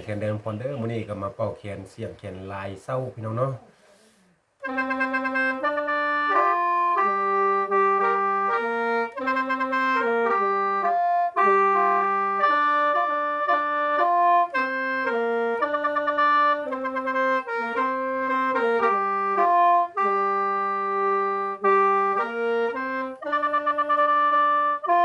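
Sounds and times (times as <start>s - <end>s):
bamboo mouth organ playing chords: 4.6s - 25.0s.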